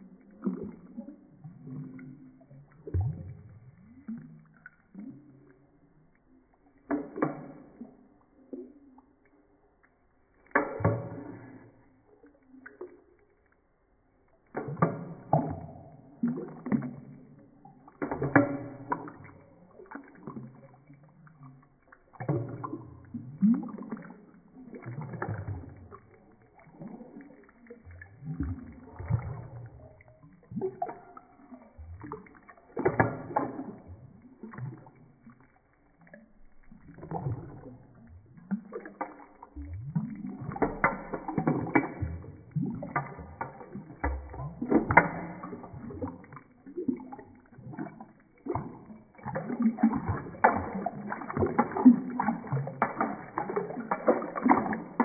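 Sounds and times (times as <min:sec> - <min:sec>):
water sloshing in a sink: 0:00.0 - 0:55.0.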